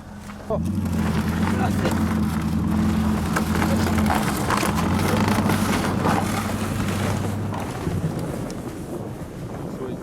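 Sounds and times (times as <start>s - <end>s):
car engine running: 0.0s - 8.4s.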